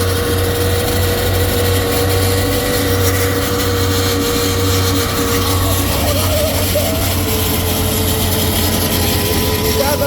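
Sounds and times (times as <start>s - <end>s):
engine at high revs: 0.0s - 10.0s
tire spinning on wet surface: 0.0s - 10.0s.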